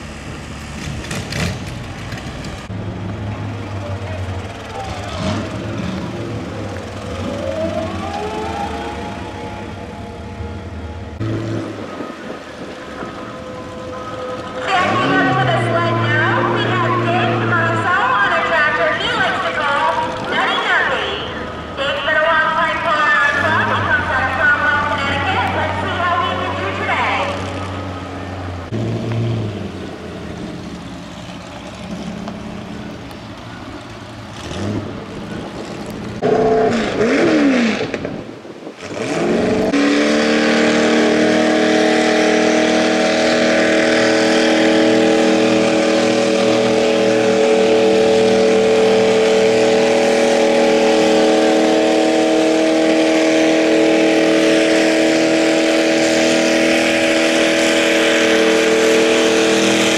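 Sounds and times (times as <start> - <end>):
tractor engine revving: 0.0 - 59.9.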